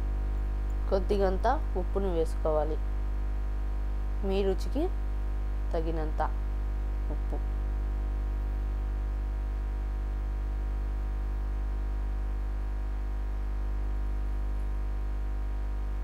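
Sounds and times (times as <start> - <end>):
low mains hum: 0.0 - 16.0.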